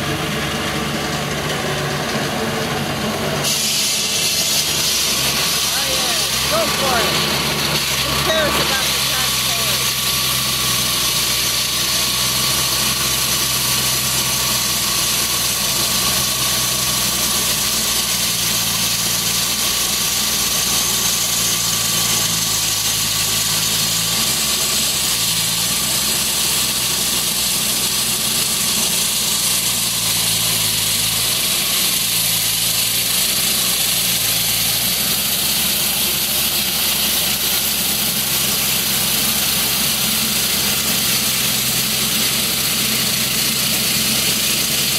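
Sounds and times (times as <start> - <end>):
loud constant hiss: 0.0 - 44.9
machine engine running: 0.0 - 44.9.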